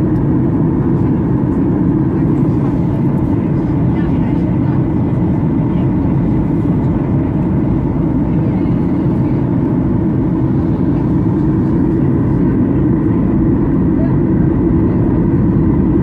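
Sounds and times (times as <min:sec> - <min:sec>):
airliner cabin low rumble: 0:00.0 - 0:16.0.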